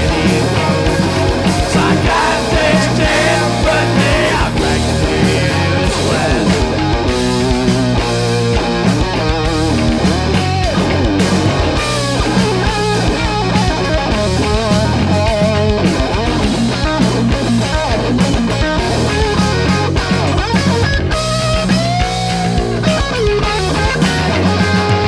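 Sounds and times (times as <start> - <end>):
bass guitar: 0.0 - 25.0
drum kit steady beat: 0.0 - 25.0
electric guitar with bent notes: 0.0 - 25.0.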